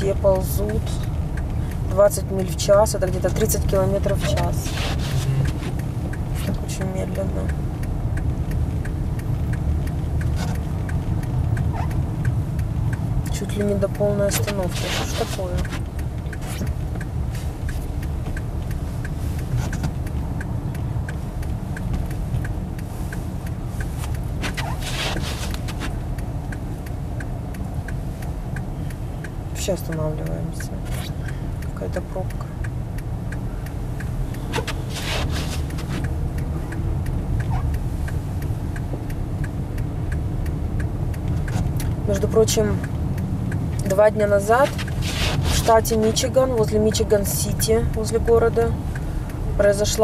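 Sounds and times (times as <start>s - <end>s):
engine and tyres rumbling on snow: 0.0s - 50.0s
light ticking: 0.0s - 50.0s.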